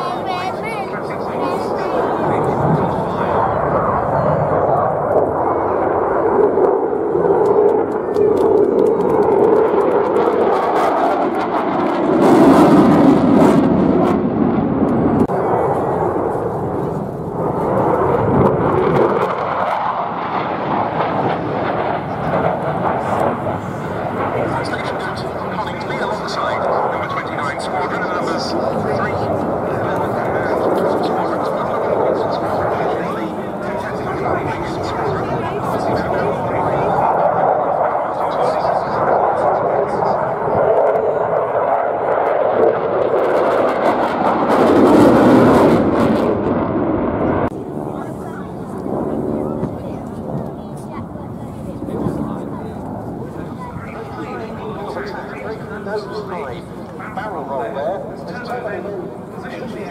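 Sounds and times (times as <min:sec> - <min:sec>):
jet flying past: 0:00.0 - 0:59.9.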